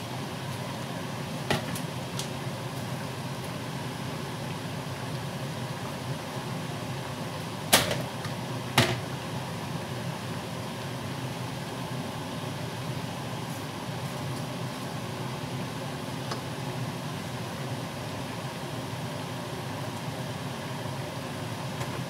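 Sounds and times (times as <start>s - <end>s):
gas burner low hum: 0.0s - 22.0s.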